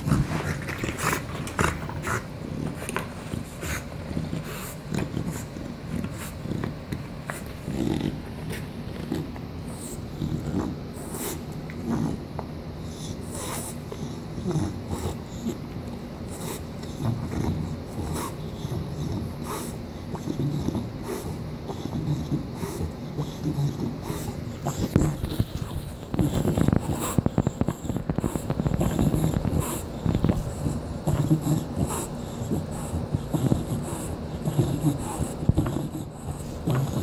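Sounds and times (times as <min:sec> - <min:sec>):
dog gnawing on chew toy: 0:00.0 - 0:37.0
dog heavy breathing: 0:00.0 - 0:37.0.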